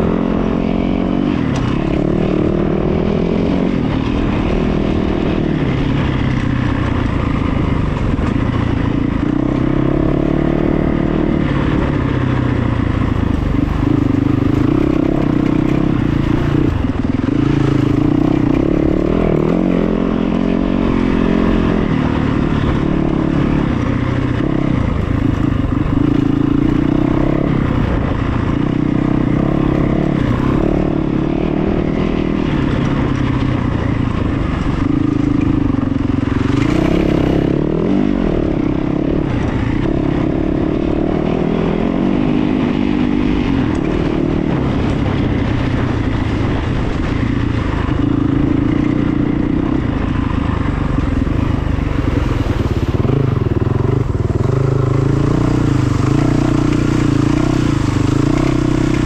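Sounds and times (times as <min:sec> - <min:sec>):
motor engine revving: 0:00.0 - 0:59.0.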